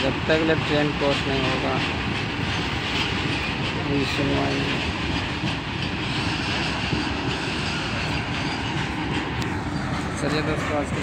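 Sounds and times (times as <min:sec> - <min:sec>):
train wagons rolling on rails: 0:00.0 - 0:11.0.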